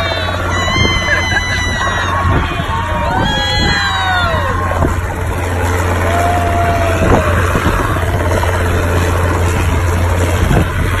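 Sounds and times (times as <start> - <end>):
helicopter rotor drone: 0.0 - 11.0.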